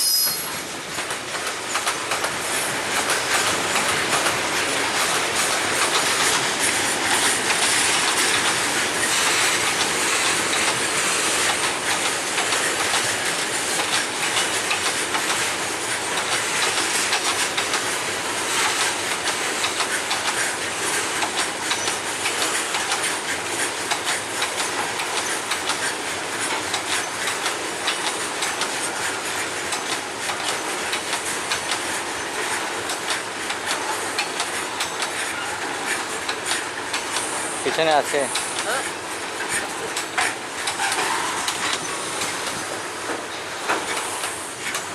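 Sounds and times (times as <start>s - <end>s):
freight train wagons rumbling: 0.0s - 44.9s
wheels clacking over rail joints: 0.0s - 44.9s.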